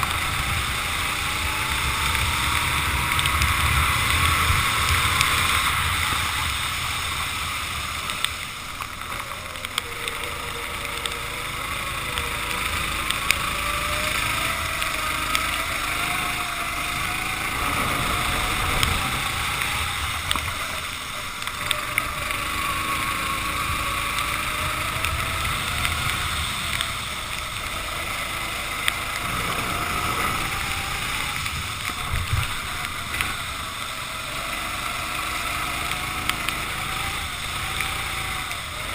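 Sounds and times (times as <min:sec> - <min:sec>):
kart engine revving: 0:00.0 - 0:38.9
wind and water spray hiss: 0:00.0 - 0:38.9.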